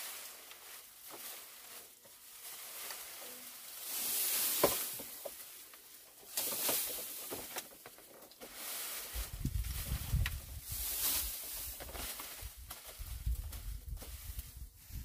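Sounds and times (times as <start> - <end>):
dry grass rustling and crackling: 0.0 - 15.0.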